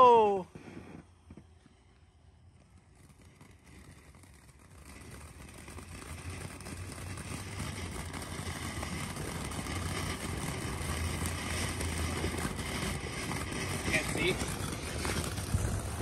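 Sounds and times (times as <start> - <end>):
firework fountain hissing: 0.0 - 16.0.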